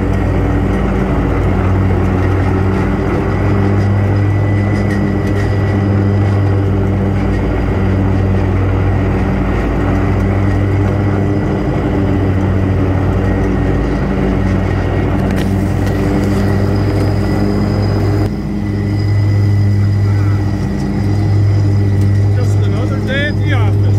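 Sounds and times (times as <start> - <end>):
riding lawn mower engine running: 0.0 - 23.9.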